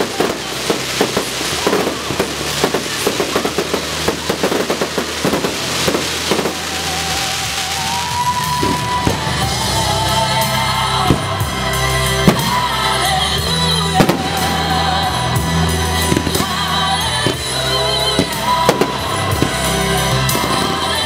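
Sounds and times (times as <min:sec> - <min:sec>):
fireworks bursting: 0:00.0 - 0:21.0
music: 0:00.0 - 0:21.0.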